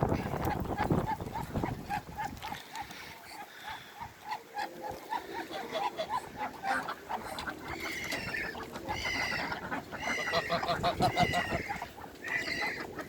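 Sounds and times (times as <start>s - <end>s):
poultry high drawn-out calls: 0.1s - 13.0s.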